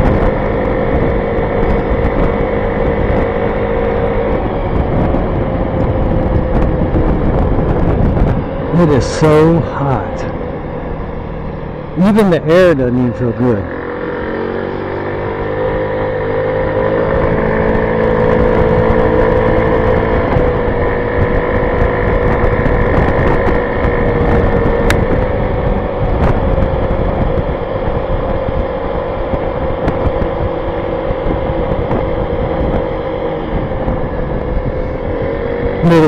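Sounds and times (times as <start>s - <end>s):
scooter engine cruising: 0.0s - 36.0s
wind rushing over microphone: 0.0s - 36.0s.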